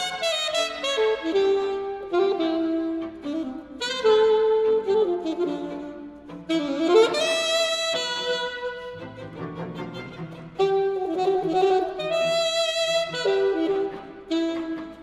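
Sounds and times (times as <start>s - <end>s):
alto saxophone playing: 0.0s - 15.0s
string quartet: 0.0s - 15.0s.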